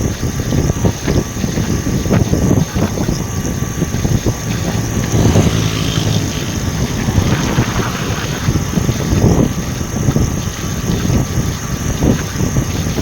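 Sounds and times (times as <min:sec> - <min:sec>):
truck engine drone: 0:01.9 - 0:12.7.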